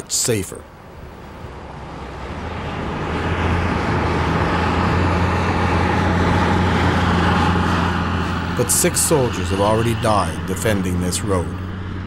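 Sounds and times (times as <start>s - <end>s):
armoured vehicle engine droning: 0.0s - 12.0s
rushing noise: 0.9s - 12.0s.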